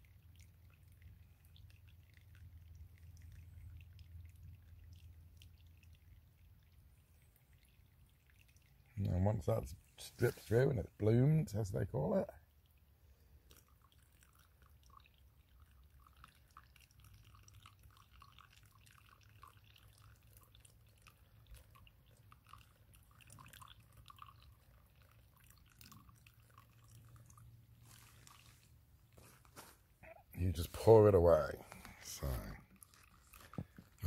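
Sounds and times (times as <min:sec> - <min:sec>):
coffee dripping through filter: 0:00.0 - 0:34.0.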